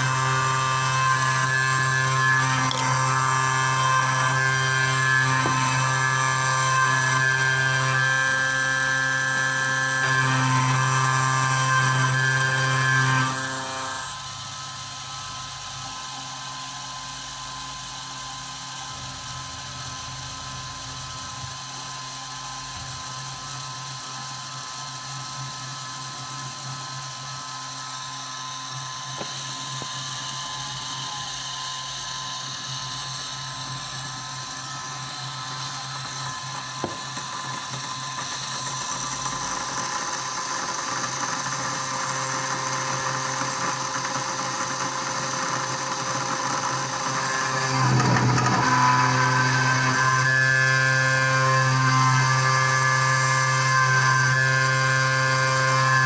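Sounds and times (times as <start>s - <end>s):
milling machine whining: 0.0s - 56.0s.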